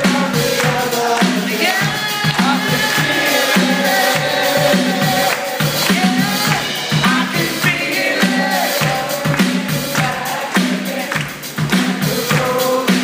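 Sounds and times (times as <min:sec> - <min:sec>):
drum beat: 0:00.0 - 0:13.0
live rock band playing: 0:00.0 - 0:13.0
person singing: 0:00.0 - 0:13.0.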